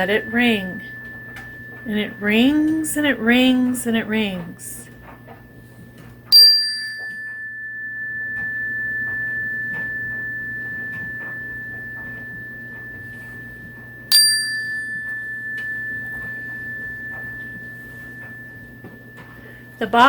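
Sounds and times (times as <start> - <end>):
metal chime bar ringing: 0.0 - 20.0.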